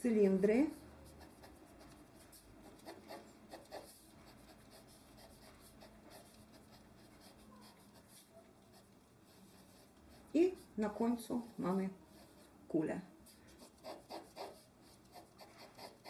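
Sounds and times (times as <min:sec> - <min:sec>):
pencil scratching on paper: 0:00.6 - 0:12.5, 0:13.2 - 0:16.0.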